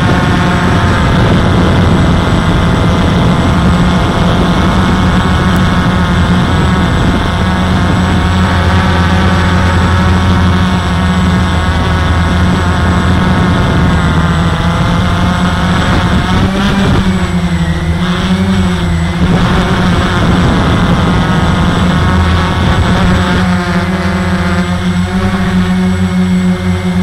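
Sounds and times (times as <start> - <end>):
quadcopter propellers buzzing: 0.0 - 27.0.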